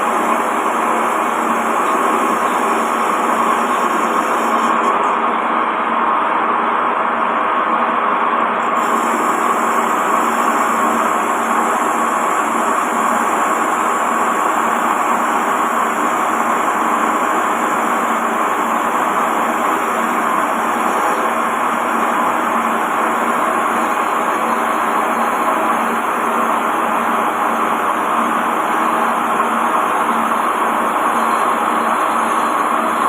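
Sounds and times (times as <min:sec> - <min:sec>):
lathe machining wood: 0:00.0 - 0:05.3, 0:08.8 - 0:33.0.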